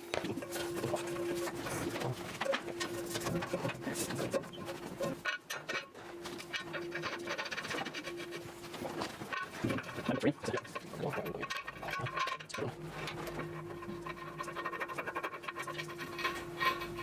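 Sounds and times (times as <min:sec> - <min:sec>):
faint steady hum: 0:00.0 - 0:17.0
hand rubbing and scraping: 0:00.0 - 0:17.0.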